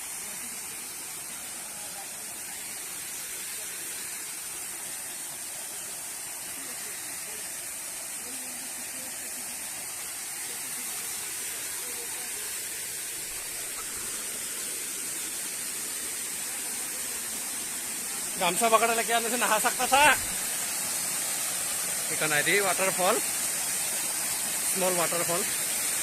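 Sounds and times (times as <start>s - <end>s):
small waterfall splashing: 0.0s - 26.0s.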